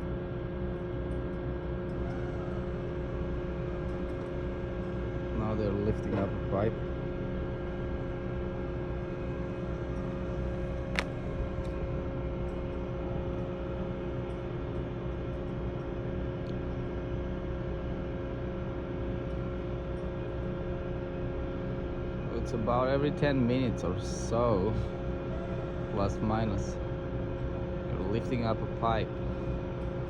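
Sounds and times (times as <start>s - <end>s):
constant machine hum: 0.0s - 30.0s.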